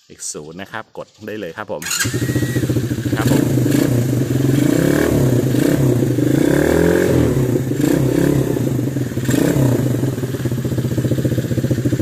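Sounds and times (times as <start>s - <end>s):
quad bike engine revving: 1.8s - 12.0s.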